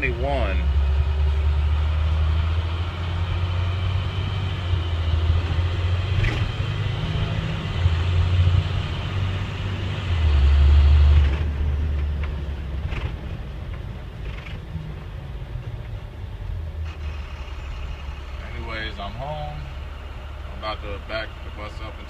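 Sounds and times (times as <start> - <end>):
bus engine rumbling: 0.0 - 22.0.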